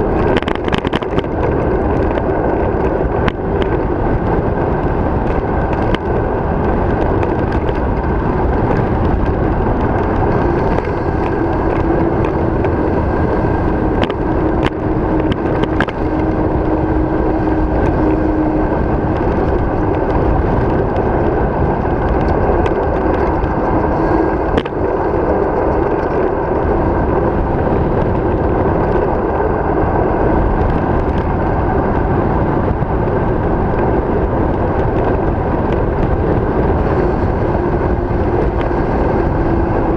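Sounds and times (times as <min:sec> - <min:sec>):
bicycle clicking over bumps: 0:00.0 - 0:39.9
bicycle tyres on asphalt: 0:00.0 - 0:39.9
wind on microphone: 0:00.0 - 0:39.9.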